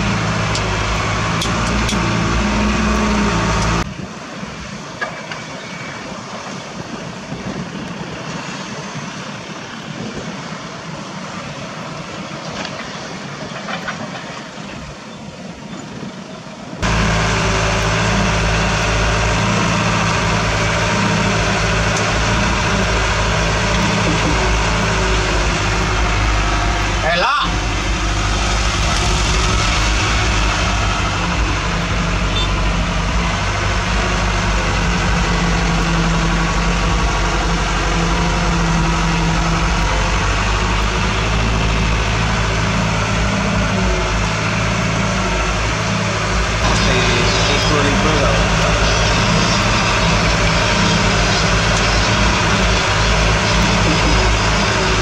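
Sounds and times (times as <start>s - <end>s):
diesel truck engine droning: 0.0s - 14.2s, 14.8s - 55.0s.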